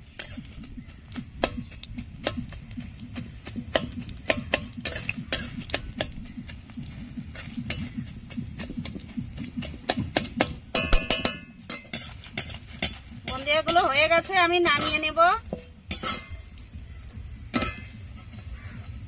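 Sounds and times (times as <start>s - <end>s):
low rumble of frying: 0.0s - 19.0s
utensil scraping a pan: 0.0s - 19.0s.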